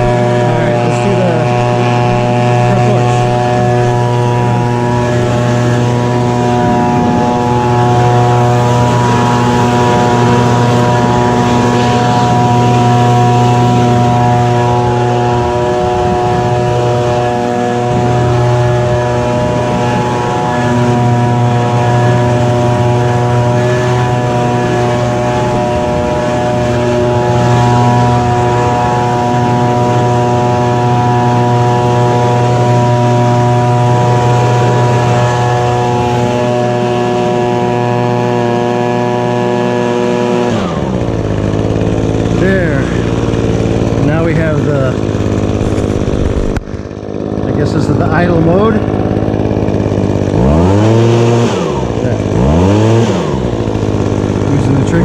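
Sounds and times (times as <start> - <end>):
leaf blower engine running: 0.0 - 55.0.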